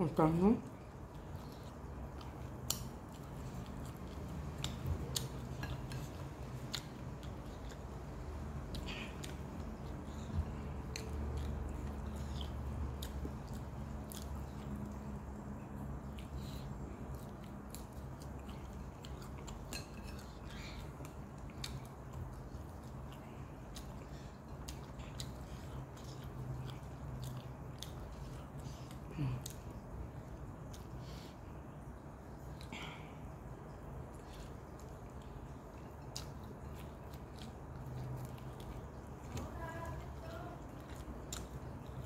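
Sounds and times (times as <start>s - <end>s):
low steady hum: 0.0s - 42.0s
person chewing: 0.7s - 42.0s.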